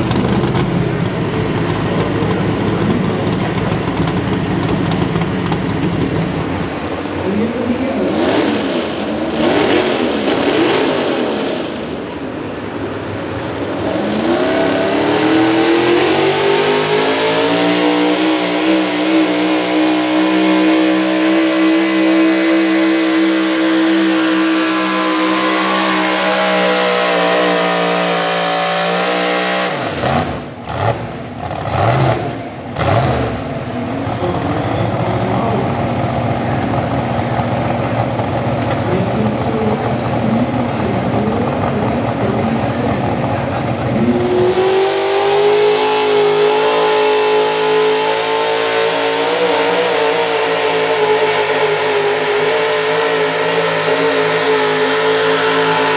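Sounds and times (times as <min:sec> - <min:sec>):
truck engine revving: 0:00.0 - 0:55.9.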